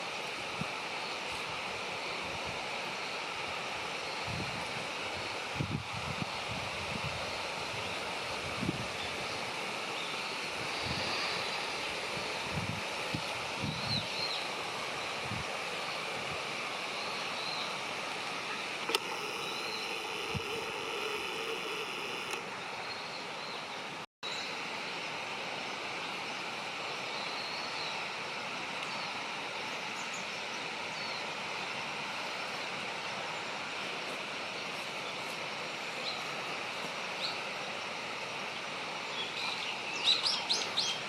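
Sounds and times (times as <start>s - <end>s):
rushing outdoor background noise: 0.0s - 41.0s.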